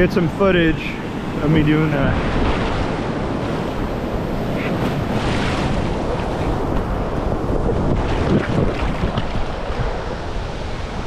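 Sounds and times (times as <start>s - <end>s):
ocean surf and whitewater: 0.0s - 11.0s.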